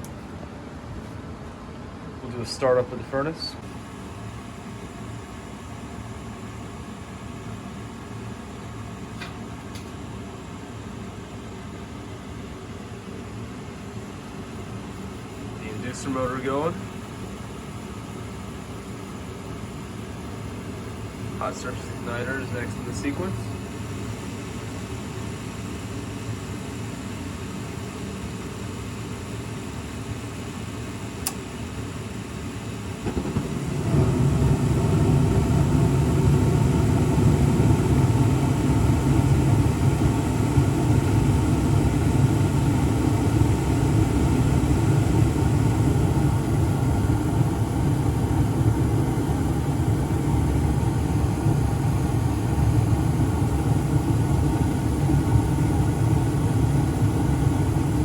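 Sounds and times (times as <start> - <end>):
furnace burners low rumble: 0.0 - 58.0
furnace inducer motor running: 2.1 - 58.0.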